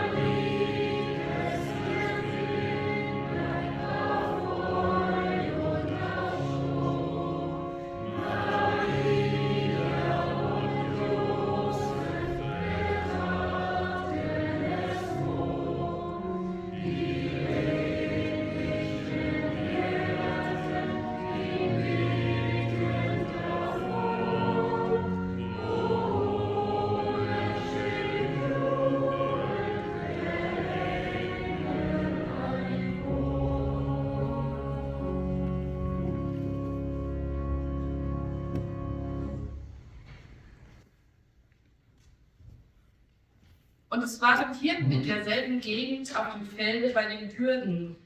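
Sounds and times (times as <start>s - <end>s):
choir singing a hymn: 0.0s - 39.6s.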